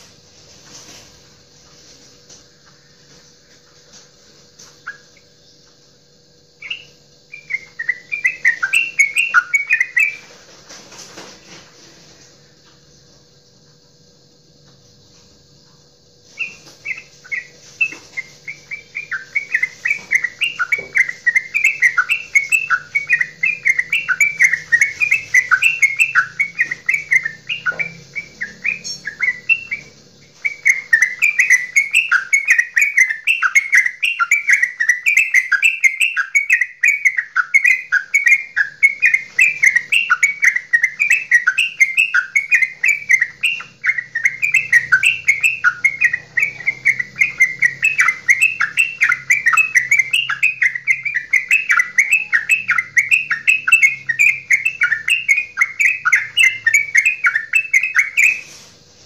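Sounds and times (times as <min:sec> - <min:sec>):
bird singing bubbling chirps: 0:04.6 - 0:10.4, 0:16.3 - 0:58.6.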